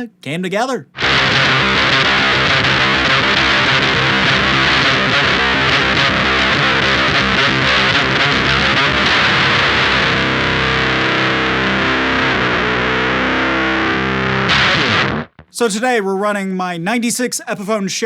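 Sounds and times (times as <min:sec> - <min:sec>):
distorted electric guitar fuzz: 0:00.9 - 0:15.6.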